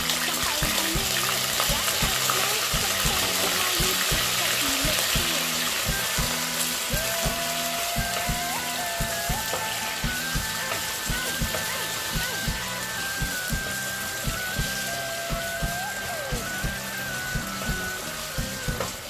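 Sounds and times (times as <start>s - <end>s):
prawns sizzling in hot oil: 0.0s - 19.0s.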